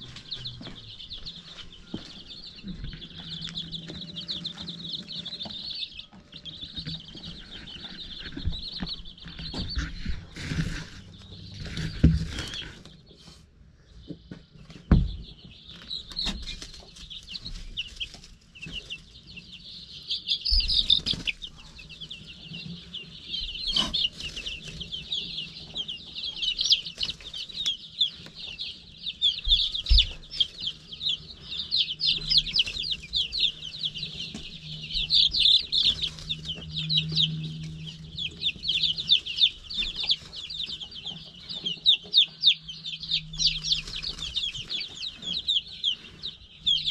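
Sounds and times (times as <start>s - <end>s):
baby chicks peeping: 0.0s - 46.9s.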